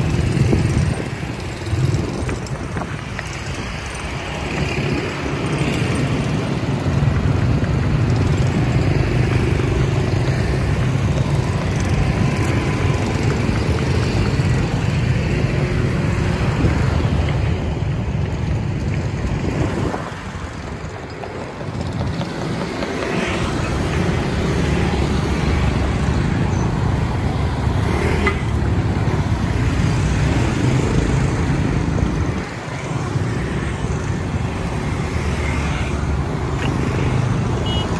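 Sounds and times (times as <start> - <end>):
motorbike and car engines passing: 0.0 - 37.9
tyres on road: 0.0 - 37.9.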